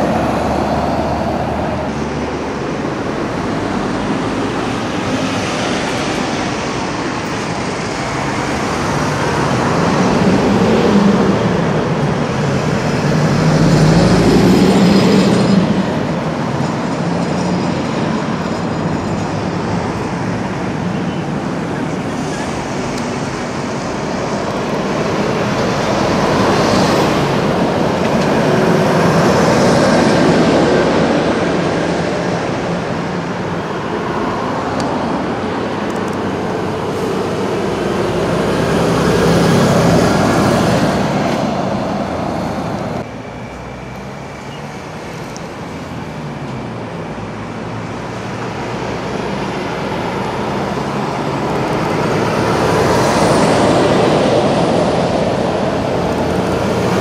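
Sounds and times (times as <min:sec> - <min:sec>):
cars passing: 0:00.0 - 0:57.0
lorries passing: 0:00.0 - 0:57.0.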